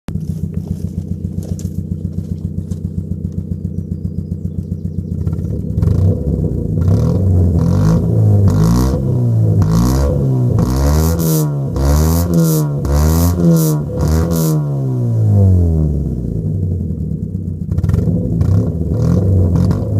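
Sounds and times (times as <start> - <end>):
car engine idling and revving: 0.1 - 19.9.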